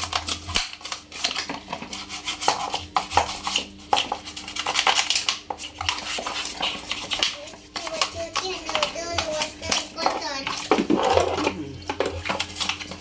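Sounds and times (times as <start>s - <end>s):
scrubbing and scraping parts: 0.0s - 13.0s.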